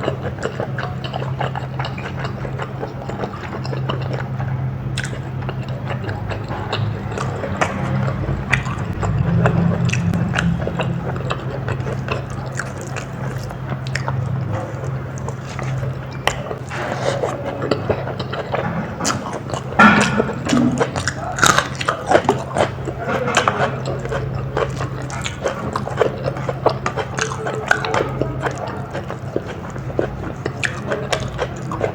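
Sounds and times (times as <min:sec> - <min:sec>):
person chewing and biting food: 0:00.0 - 0:31.9
steady low hum: 0:00.0 - 0:31.9.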